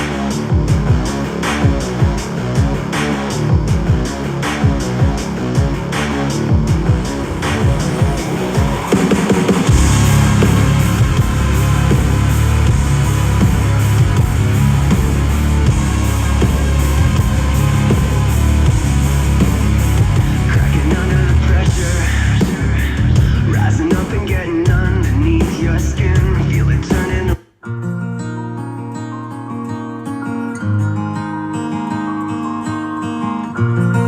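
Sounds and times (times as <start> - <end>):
distorted rock music from speaker: 0.0 - 27.4.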